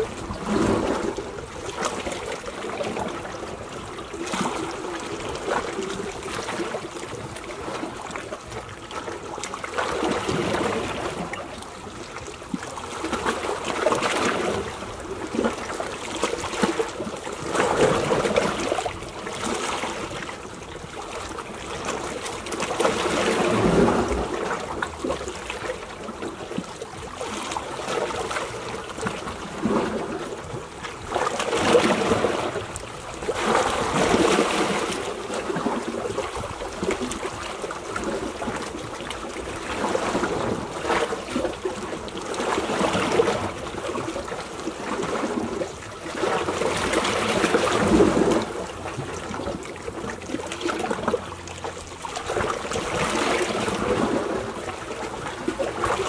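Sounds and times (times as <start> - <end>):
small waves lapping at shore: 0.0 - 56.0.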